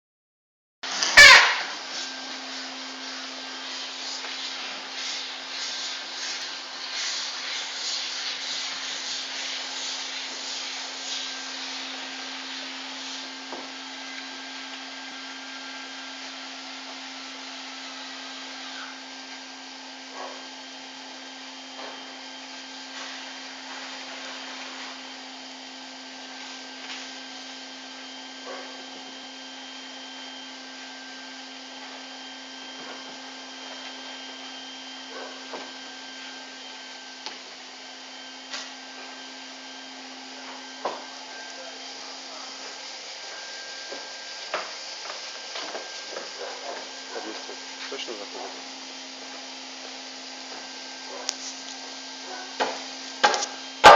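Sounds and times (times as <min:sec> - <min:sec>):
insulation blowing machine running: 0:00.8 - 0:53.9.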